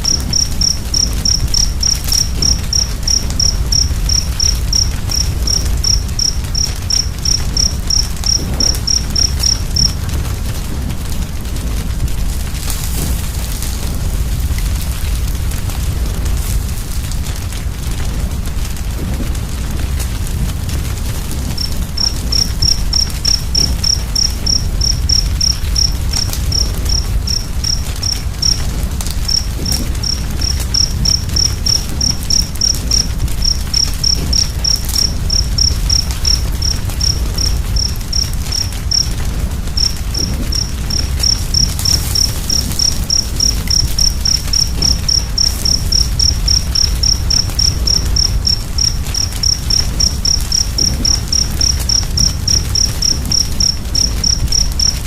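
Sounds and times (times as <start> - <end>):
cricket chirping: 0.0 - 11.7, 19.0 - 55.0.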